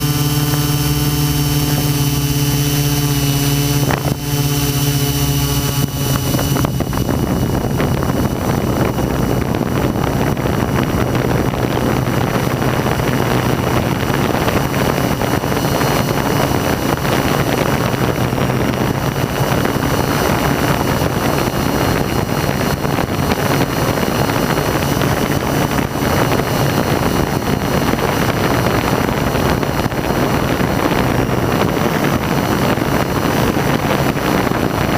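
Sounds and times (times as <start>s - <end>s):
drone motors whining: 0.0s - 34.9s
loud rushing noise: 0.0s - 34.9s.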